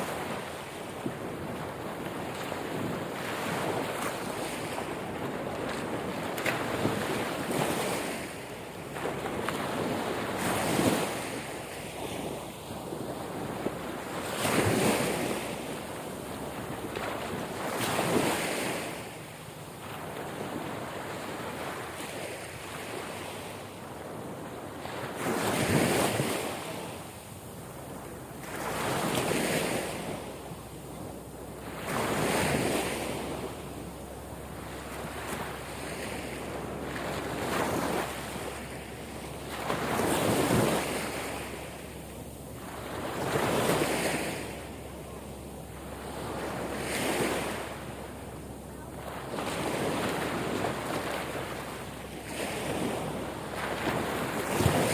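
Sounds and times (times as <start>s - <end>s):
ocean waves breaking: 0.0s - 54.9s.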